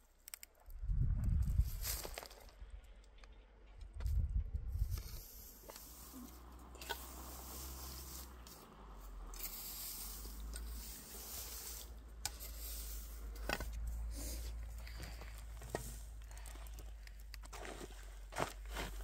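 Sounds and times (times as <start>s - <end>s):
straw rustling and crunching: 1.3s - 2.8s, 4.0s - 19.0s.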